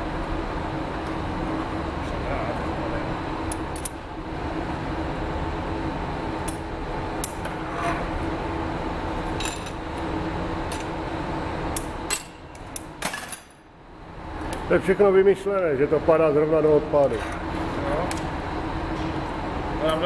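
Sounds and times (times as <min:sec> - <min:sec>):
workshop hum: 0:00.0 - 0:20.0.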